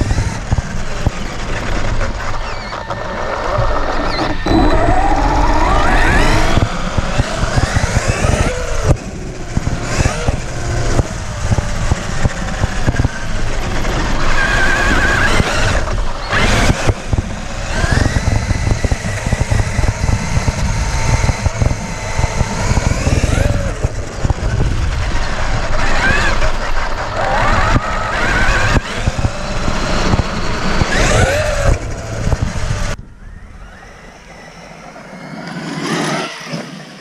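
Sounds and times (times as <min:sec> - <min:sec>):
drivetrain rumble: 0:00.0 - 0:37.0
electric motor whining: 0:00.0 - 0:37.0.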